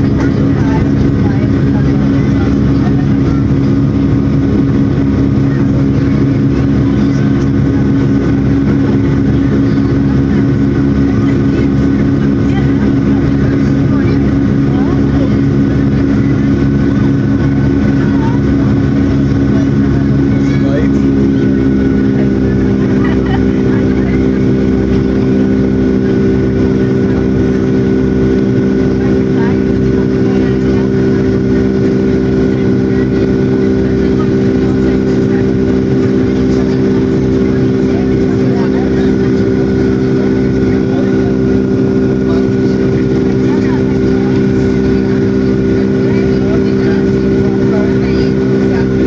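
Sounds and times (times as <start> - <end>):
faint steady whine: 0.0 - 49.0
jet engine drone in cabin: 0.0 - 49.0.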